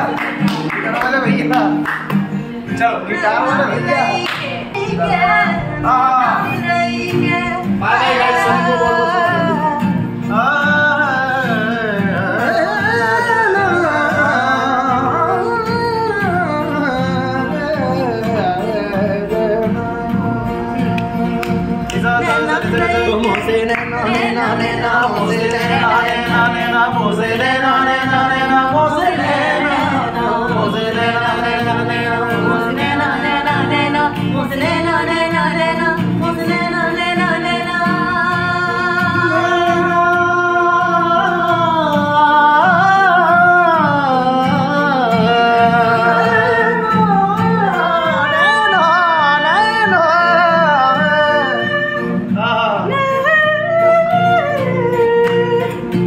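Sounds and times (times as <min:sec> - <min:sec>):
voices singing: 0:00.0 - 0:56.0.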